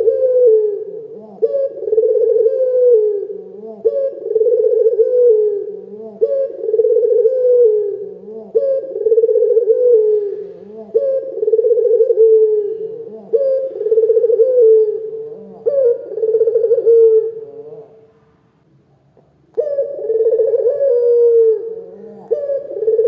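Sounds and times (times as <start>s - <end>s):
dove cooing: 0.0s - 18.1s, 19.5s - 23.0s.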